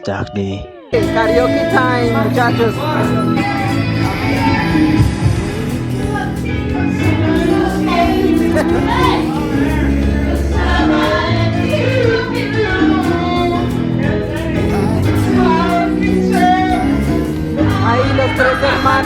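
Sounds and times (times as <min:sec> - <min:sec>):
karaoke backing track: 0:00.0 - 0:19.0
people singing along: 0:01.0 - 0:19.0.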